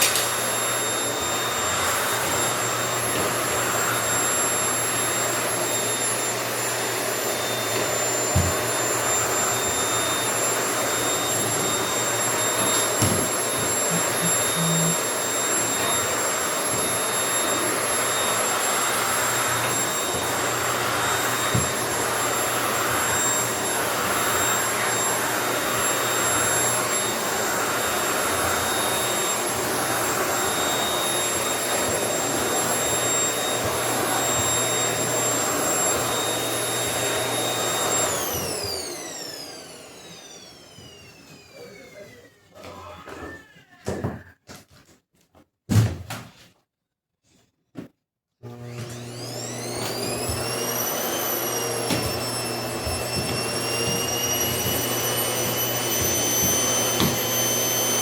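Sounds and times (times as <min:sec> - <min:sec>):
vacuum cleaner motor whine: 0:00.0 - 0:44.2, 0:48.4 - 0:58.0.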